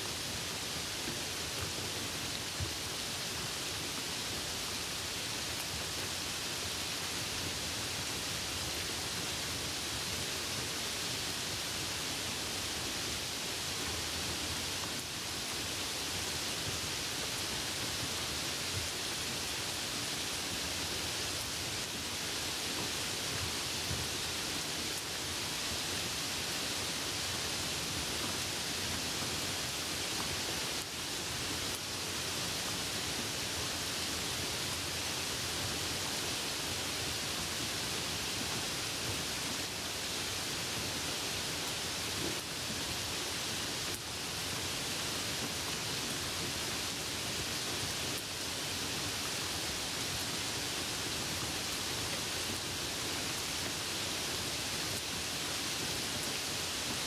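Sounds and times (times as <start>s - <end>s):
rain hiss on wet road: 0.0s - 57.0s.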